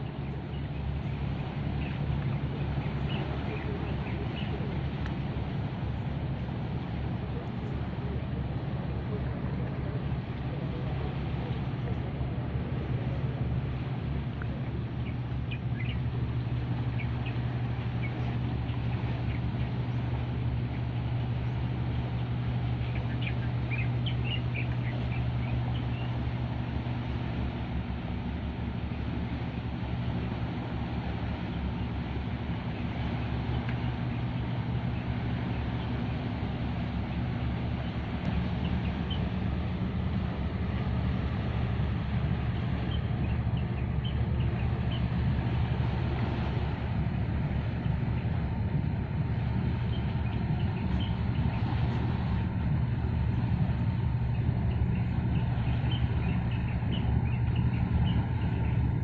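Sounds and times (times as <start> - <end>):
tanker diesel engine drone: 0.0 - 59.0.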